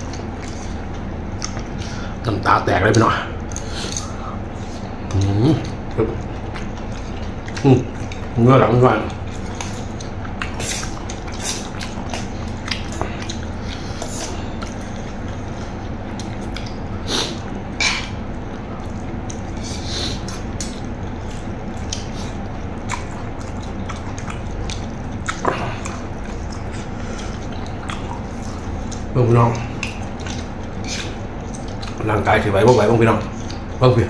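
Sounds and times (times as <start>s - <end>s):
chewing mouth noises: 0.0s - 2.2s, 2.8s - 34.0s
steady background hum: 0.0s - 34.0s.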